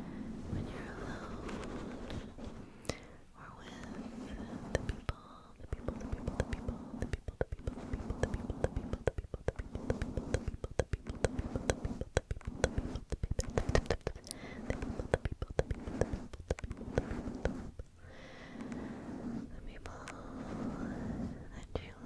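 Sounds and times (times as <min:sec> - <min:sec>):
rubbing on microphone windscreen: 0:00.4 - 0:02.7, 0:03.7 - 0:17.9, 0:18.6 - 0:22.0.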